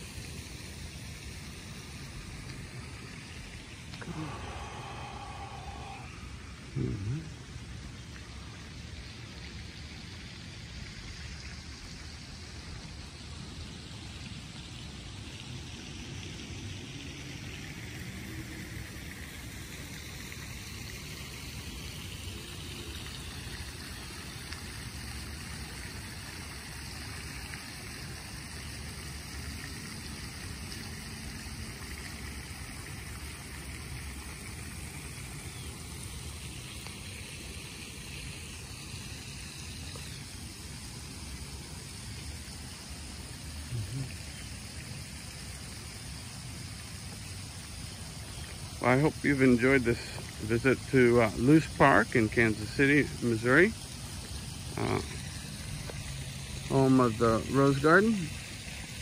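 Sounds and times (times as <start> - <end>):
steady rain on foliage: 0.0 - 59.0.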